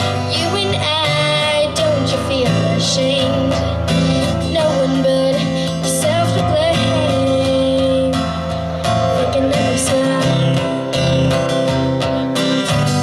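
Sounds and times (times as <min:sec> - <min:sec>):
woman singing slow melody: 0:00.0 - 0:11.2
strummed acoustic guitar: 0:00.0 - 0:13.0.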